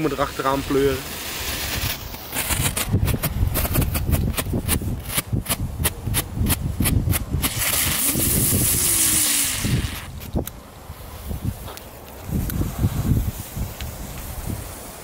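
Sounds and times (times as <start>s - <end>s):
firework strobe popping: 0.0s - 10.5s, 11.5s - 15.0s
spinning firework hissing: 0.0s - 15.0s.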